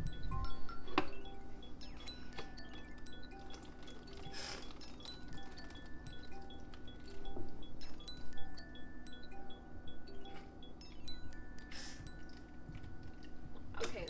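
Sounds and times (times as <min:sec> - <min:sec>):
bell-like chiming tune: 0:00.0 - 0:14.0.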